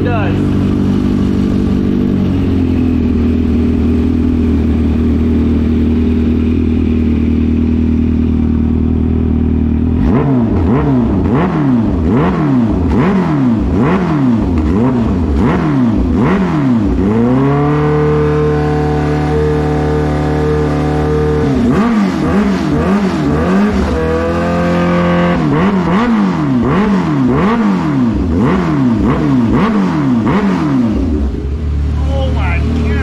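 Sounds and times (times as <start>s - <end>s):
motorcycle engine idling: 0.0s - 17.4s, 18.3s - 33.0s
motorcycle throttle blips: 0.0s - 33.0s.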